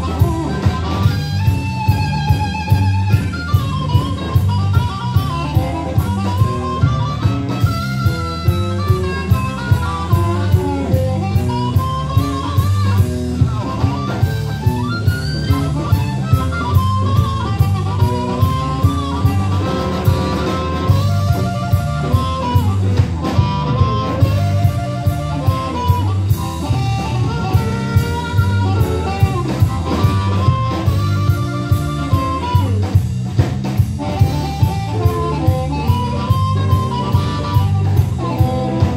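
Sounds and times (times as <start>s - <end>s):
lead guitar melody: 0.0s - 38.9s
live blues band playing: 0.0s - 38.9s
steady drum beat: 0.0s - 38.9s.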